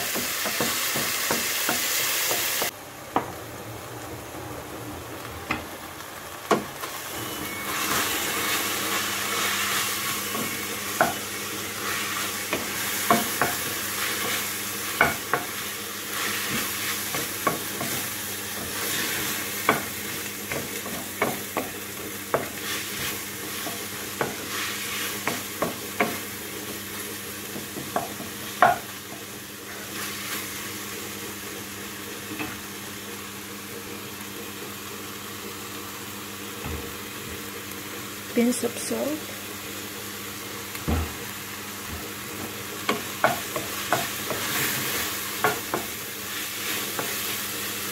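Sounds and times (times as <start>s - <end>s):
beef sizzling in a pan: 0.0s - 2.8s, 5.5s - 47.9s.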